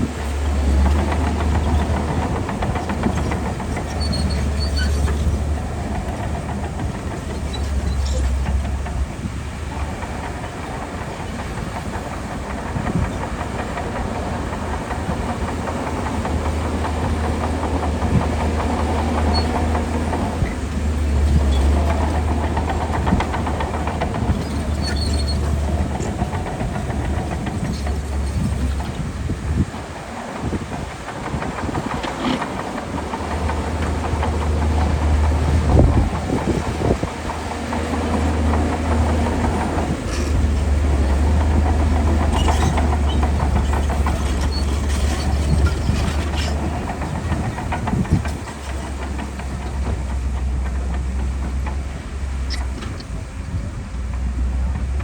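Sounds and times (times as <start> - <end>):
bulldozer diesel engine droning: 0.0 - 55.0
steel tracks clattering: 0.0 - 55.0.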